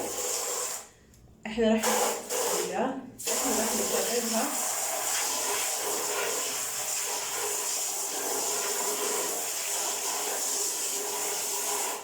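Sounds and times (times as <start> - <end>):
running water hissing: 0.0 - 0.9, 1.8 - 12.0.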